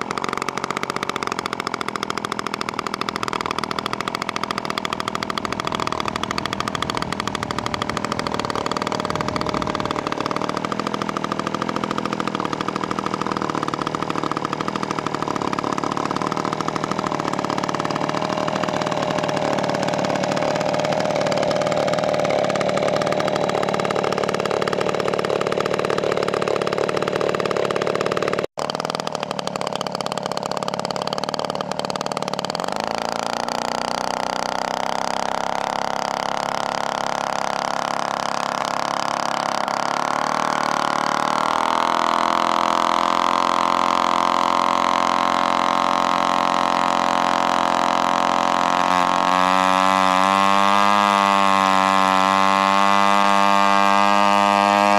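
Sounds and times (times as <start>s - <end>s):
model plane engine running: 0.0s - 54.9s.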